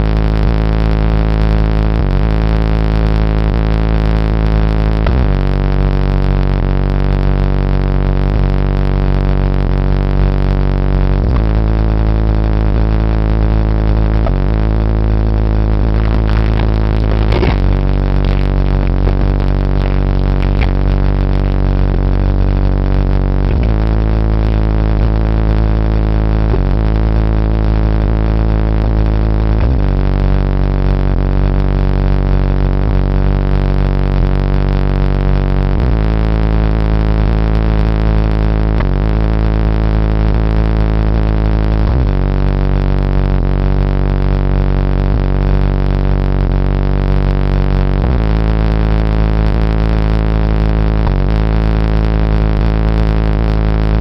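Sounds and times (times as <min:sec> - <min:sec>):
distorted bass-heavy music: 0:00.0 - 0:54.0.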